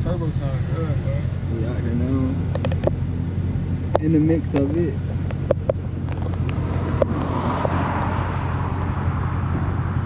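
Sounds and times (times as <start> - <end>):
engine hum: 0.0 - 10.0.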